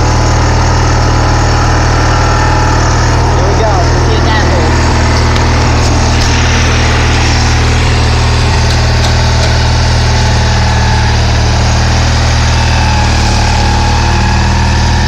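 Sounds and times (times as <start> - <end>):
garden tractor engine running: 0.0 - 15.0.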